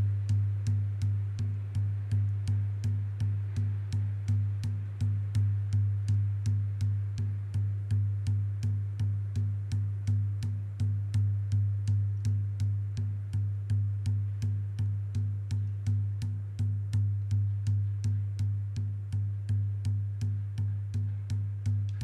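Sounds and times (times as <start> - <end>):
drum beating steadily: 0.0 - 22.0.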